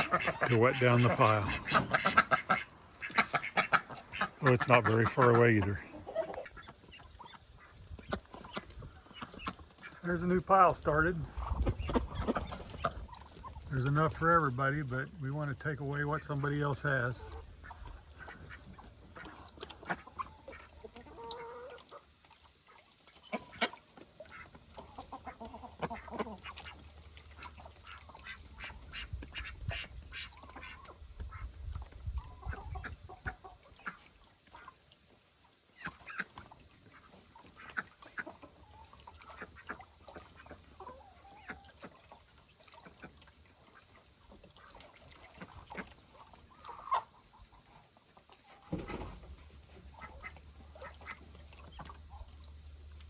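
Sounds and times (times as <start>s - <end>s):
ducks and chickens calling: 0.0s - 53.0s.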